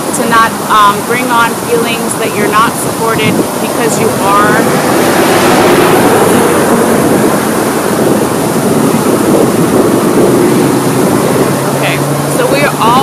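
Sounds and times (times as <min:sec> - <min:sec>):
fountain jets splashing: 0:00.0 - 0:13.0.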